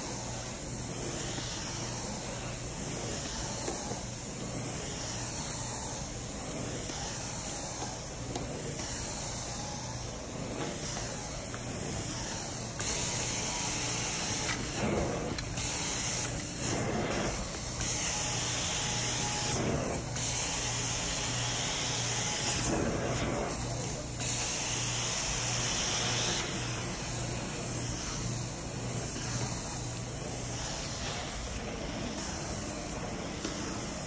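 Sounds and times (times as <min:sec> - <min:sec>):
extraction wand suction hiss: 0:00.0 - 0:34.0.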